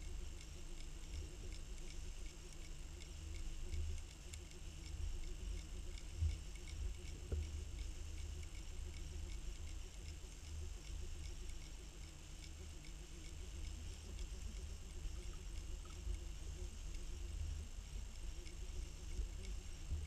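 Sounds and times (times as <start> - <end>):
faint ticking: 0.0 - 20.0.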